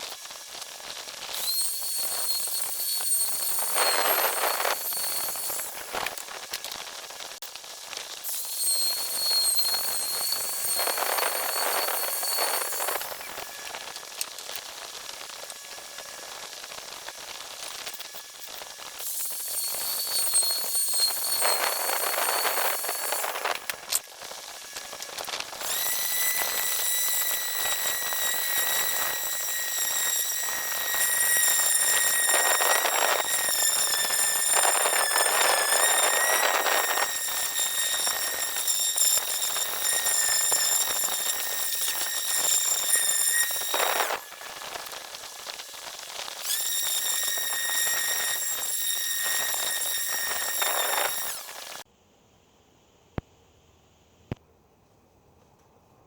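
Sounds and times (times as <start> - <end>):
power tool whining on wood: 0.0 - 51.9.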